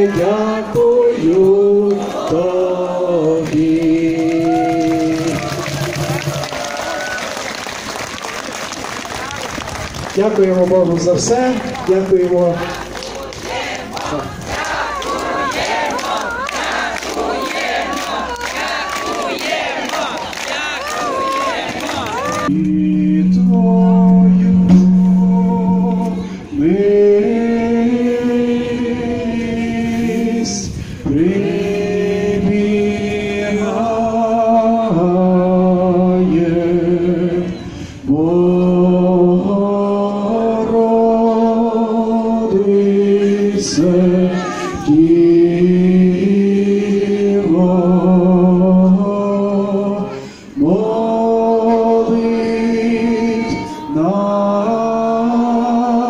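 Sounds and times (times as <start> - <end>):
people singing together: 0.0 - 6.7, 12.3 - 56.0.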